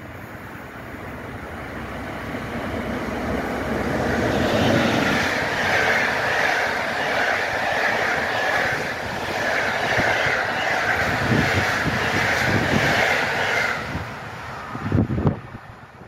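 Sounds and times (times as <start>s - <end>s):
train wheels rumbling over rails: 0.0s - 16.0s.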